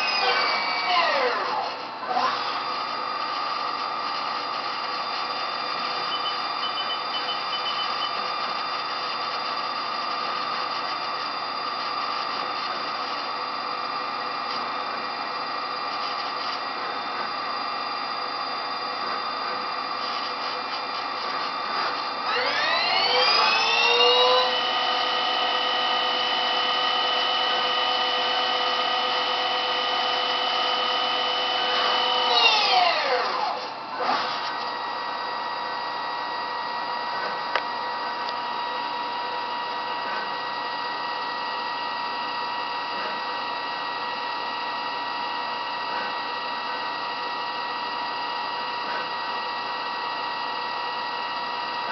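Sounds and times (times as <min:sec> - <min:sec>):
lathe machine hum: 0:00.0 - 0:07.6, 0:08.2 - 0:51.8
spindle drive whine: 0:00.0 - 0:51.9.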